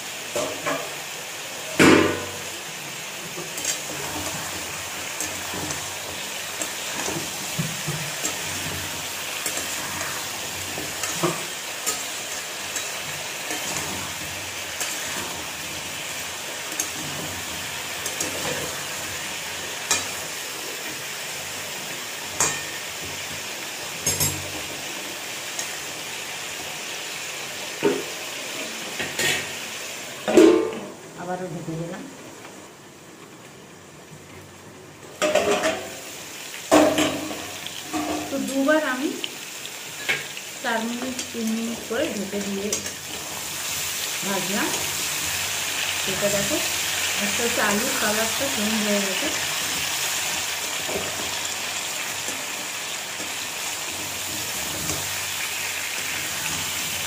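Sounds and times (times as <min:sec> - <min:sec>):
potatoes sizzling in hot oil: 0:00.0 - 0:30.4, 0:34.5 - 0:57.0.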